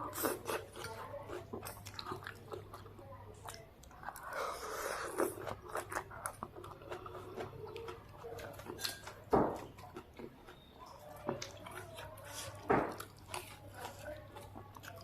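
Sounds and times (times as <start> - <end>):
person chewing noodle soup: 0.0 - 15.0.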